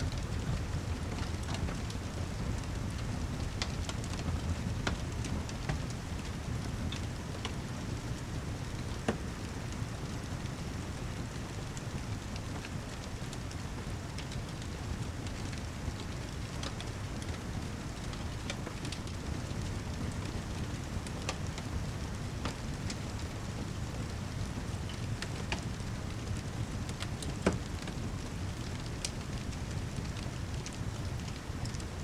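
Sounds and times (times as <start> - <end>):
fireplace crackling: 0.0 - 32.0
heavy rain: 0.0 - 32.0.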